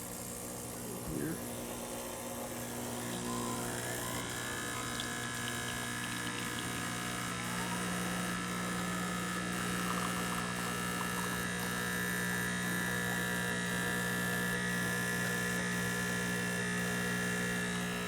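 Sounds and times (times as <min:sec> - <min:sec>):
espresso machine pump buzzing: 0:00.0 - 0:18.0.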